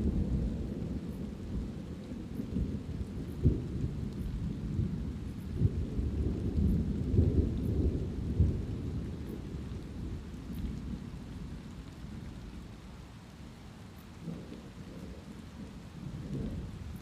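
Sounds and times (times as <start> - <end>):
thunder rumbling: 0.0 - 12.7, 14.2 - 17.0
light rain: 0.0 - 17.0.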